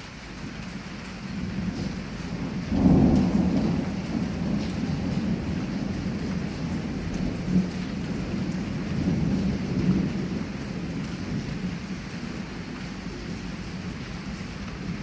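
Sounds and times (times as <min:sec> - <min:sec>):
heavy rain: 0:00.0 - 0:15.0
rolling thunder rumble: 0:01.2 - 0:15.0.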